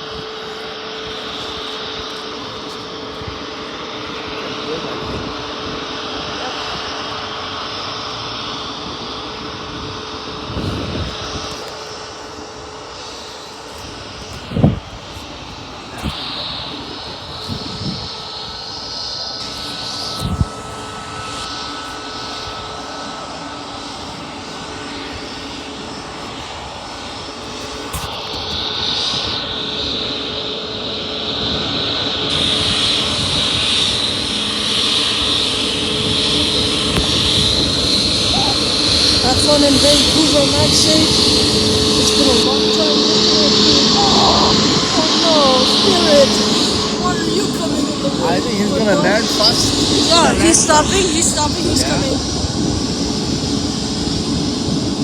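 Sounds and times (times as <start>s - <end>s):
airliner engines whining: 0.0s - 55.0s.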